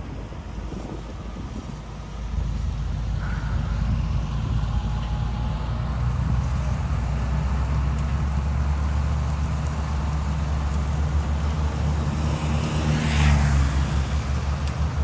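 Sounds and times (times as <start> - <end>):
farm machinery engine droning: 0.0 - 15.0.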